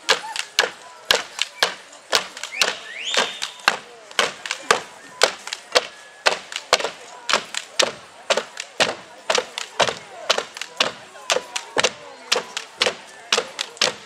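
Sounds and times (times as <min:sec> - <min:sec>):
wooden sticks clacking: 0:00.0 - 0:14.0.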